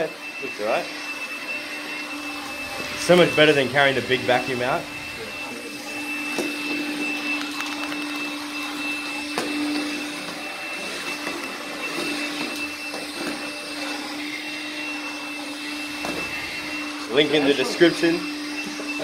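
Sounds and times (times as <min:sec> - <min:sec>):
cordless vacuum cleaner running: 0:00.0 - 0:19.0.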